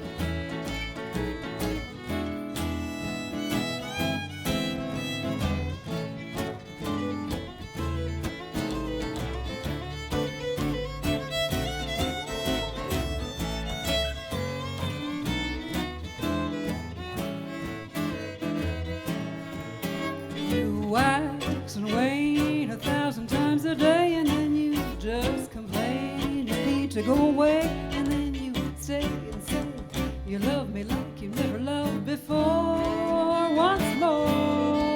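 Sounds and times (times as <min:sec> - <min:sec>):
bass: 0:00.0 - 0:34.9
fiddle lead: 0:00.0 - 0:34.9
strummed guitar: 0:00.0 - 0:34.9.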